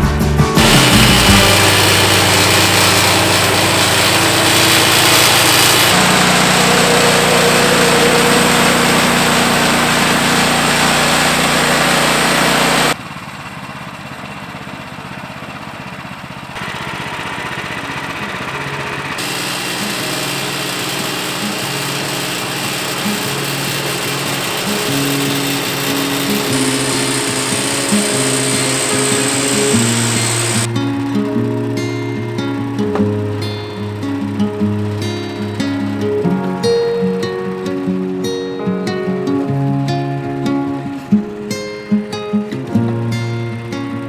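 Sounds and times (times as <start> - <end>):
small gasoline engine running: 0.6 - 39.7.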